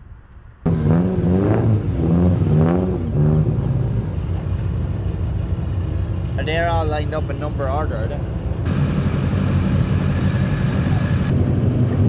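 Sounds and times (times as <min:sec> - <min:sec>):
rally car engine revving: 0:00.6 - 0:12.0.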